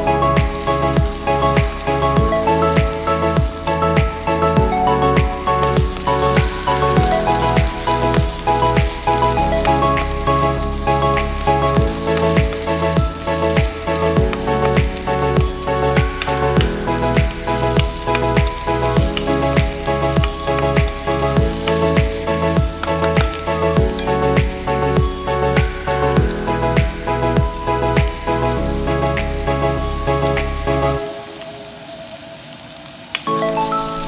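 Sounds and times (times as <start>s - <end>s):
background music with beat: 0.0s - 31.8s
onion sizzling in oil: 0.0s - 34.0s.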